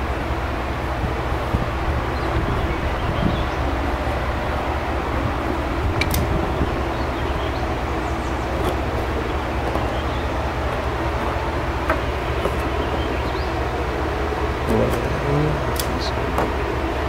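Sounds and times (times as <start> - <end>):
gas venting rushing noise: 0.0 - 17.0.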